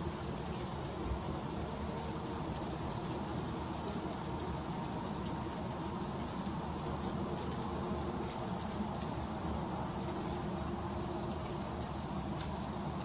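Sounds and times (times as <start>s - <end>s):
freezing rain hissing: 0.0s - 13.0s.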